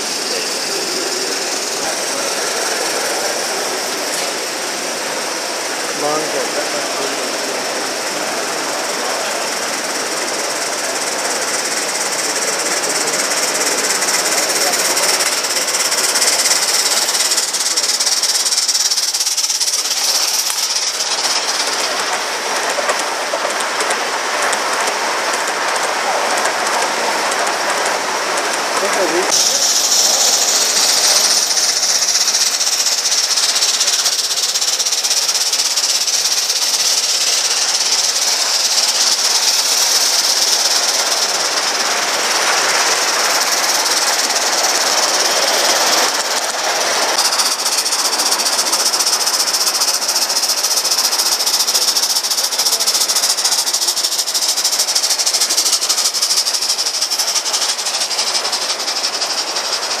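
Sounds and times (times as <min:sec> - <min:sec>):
steam hissing: 0:00.0 - 1:00.0
train wheels rattling on track: 0:00.0 - 1:00.0.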